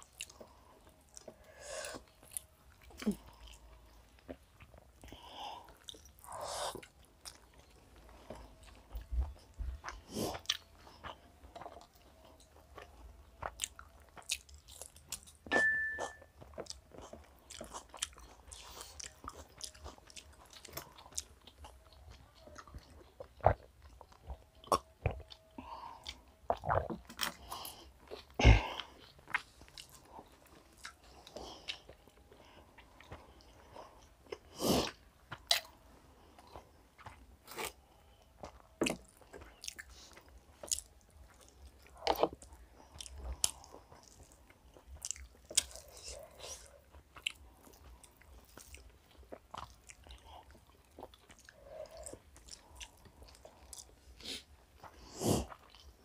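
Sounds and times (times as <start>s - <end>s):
chewing and biting: 0.0s - 56.0s.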